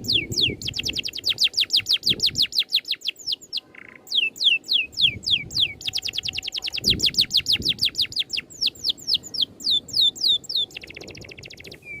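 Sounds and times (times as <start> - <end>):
buzzy bird trill: 0.0 - 12.0
songbird singing whistled notes: 0.0 - 12.0.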